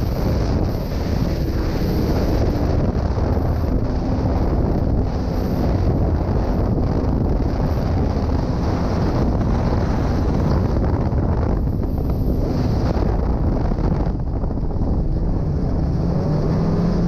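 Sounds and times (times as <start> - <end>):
snowmobile engine running: 0.0 - 17.0
wind buffeting microphone: 0.0 - 17.0.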